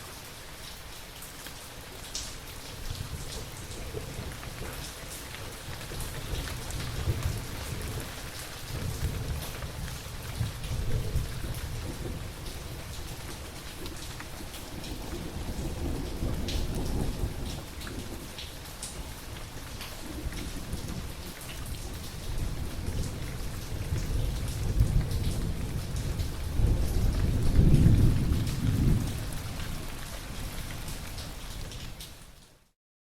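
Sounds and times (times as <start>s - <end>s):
steady rain falling: 0.0s - 32.8s
low rolling thunder: 2.8s - 18.6s, 20.0s - 30.6s.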